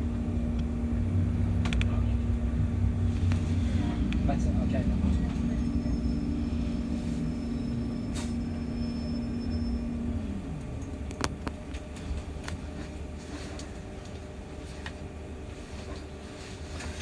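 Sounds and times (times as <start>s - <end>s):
bus engine rumble and hum: 0.0s - 17.0s.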